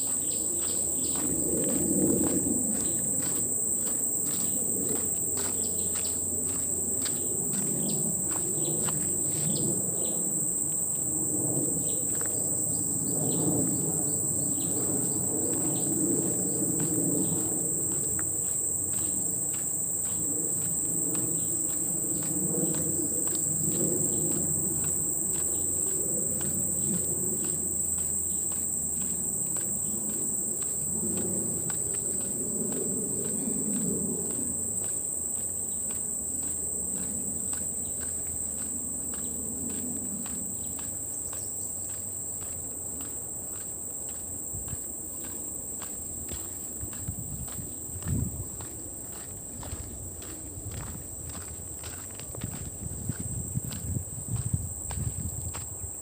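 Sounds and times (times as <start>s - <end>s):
footsteps on dirt track: 0.0s - 56.0s
high-pitched insect drone: 0.0s - 56.0s.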